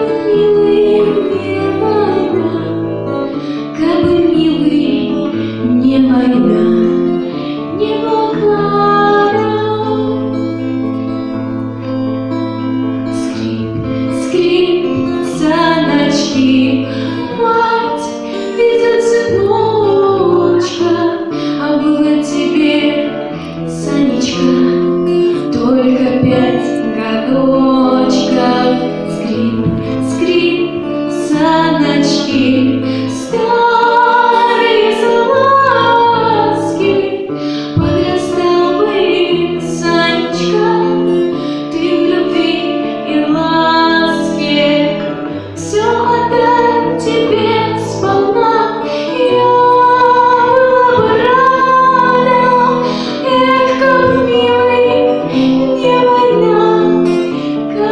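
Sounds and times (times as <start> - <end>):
woman singing: 0.0 - 10.5, 12.9 - 57.9.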